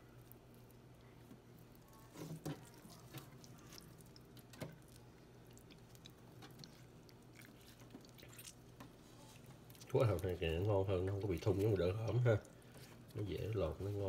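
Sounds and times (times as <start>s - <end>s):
wet squishes of skin peeling: 0.1s - 14.0s.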